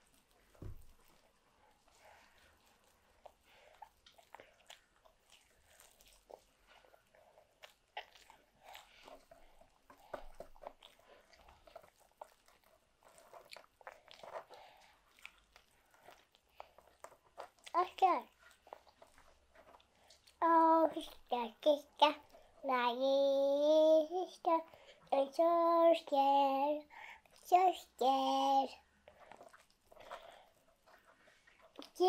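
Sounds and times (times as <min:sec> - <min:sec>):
toddler chewing: 0:00.0 - 0:26.2, 0:26.8 - 0:32.0.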